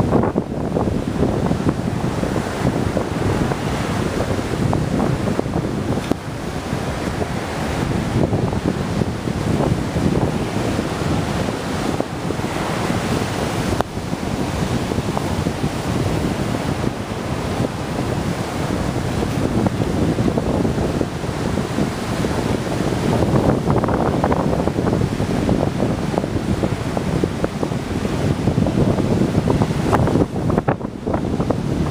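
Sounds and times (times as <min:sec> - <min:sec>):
surf breaking on beach: 0:00.0 - 0:31.9
wind buffeting microphone: 0:00.0 - 0:31.9.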